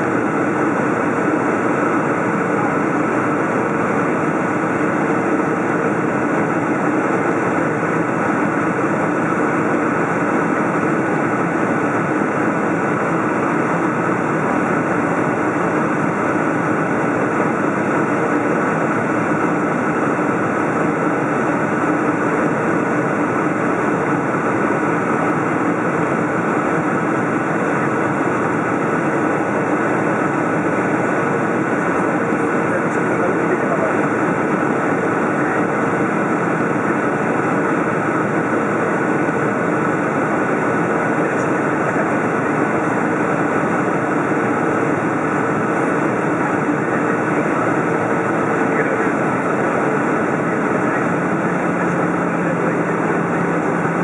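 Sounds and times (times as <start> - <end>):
jet engine hum: 0.0 - 54.0.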